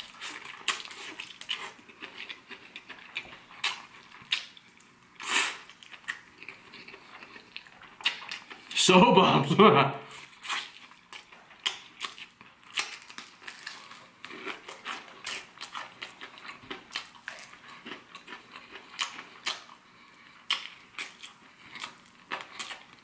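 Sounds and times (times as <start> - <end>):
person chewing crispy chicken: 0.0 - 8.8, 10.1 - 23.0.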